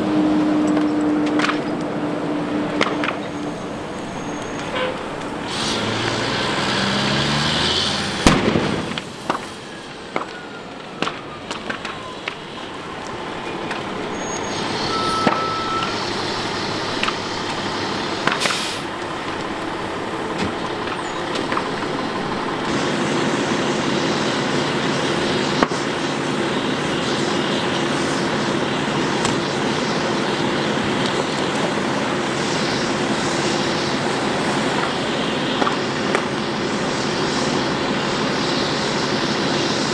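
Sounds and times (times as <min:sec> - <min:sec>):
engine drone with low hum: 0:00.0 - 0:39.9
fire engine engine rising: 0:00.0 - 0:39.9
steady rush of noise: 0:00.0 - 0:39.9
fire cracking and popping: 0:02.7 - 0:06.2, 0:08.1 - 0:14.6, 0:15.9 - 0:38.3.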